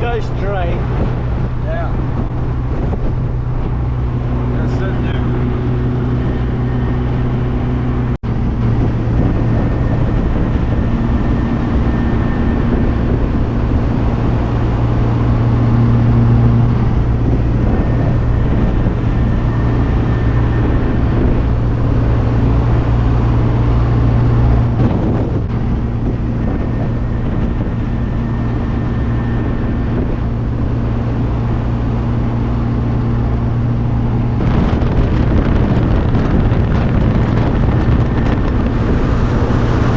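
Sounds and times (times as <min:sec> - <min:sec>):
road and wind noise: 0:00.0 - 0:39.9
sports car engine drone: 0:00.0 - 0:39.9.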